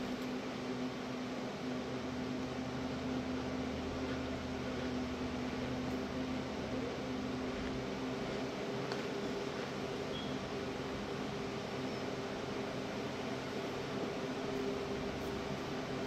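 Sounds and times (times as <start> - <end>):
mechanical hum with hiss: 0.0 - 16.0.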